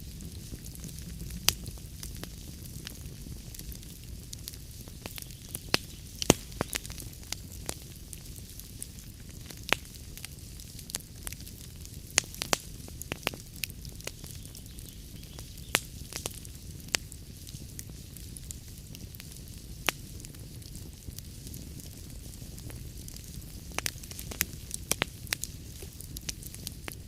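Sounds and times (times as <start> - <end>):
log fire crackling and popping: 0.0 - 27.0.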